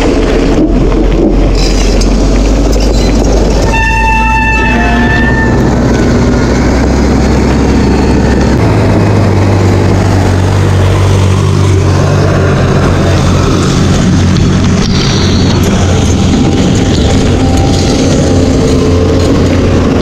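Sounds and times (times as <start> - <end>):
construction machinery engines droning: 0.0 - 20.0
wind: 0.0 - 20.0.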